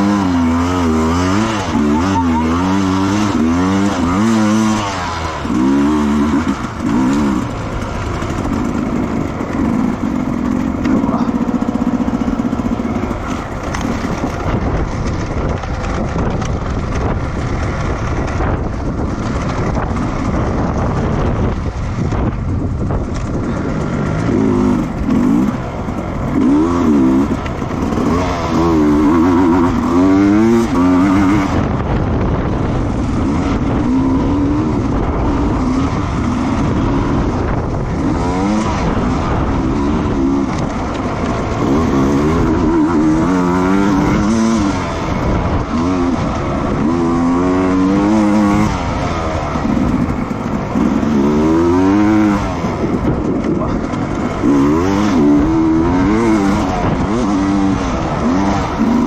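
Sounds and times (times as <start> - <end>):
racing motorcycle engines: 0.0 - 59.0
wind and road noise: 0.0 - 59.0.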